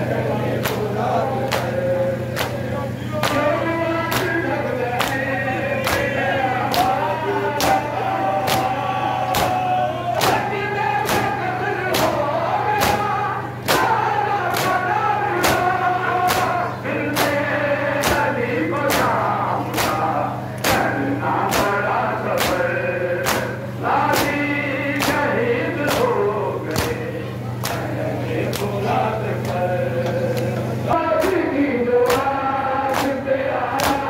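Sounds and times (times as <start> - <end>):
men chanting together: 0.0 - 34.0
steady low hum: 0.0 - 34.0.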